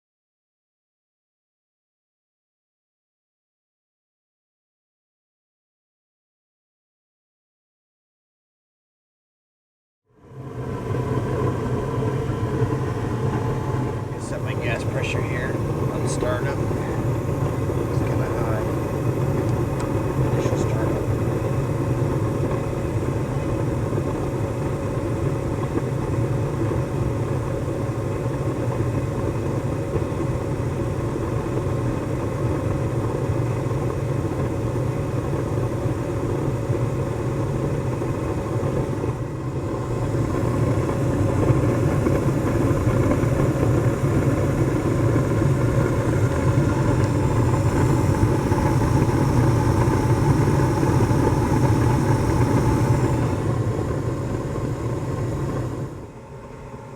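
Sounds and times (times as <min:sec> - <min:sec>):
air conditioner humming: 0:10.2 - 0:56.9.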